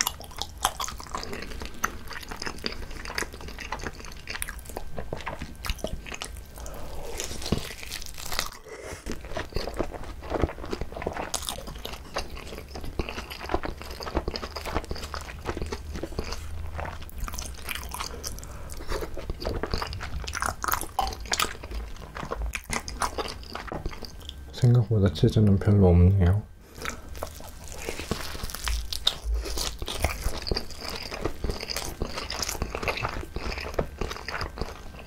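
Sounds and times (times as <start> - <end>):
wet chewing: 0.0 - 24.4, 26.7 - 35.0.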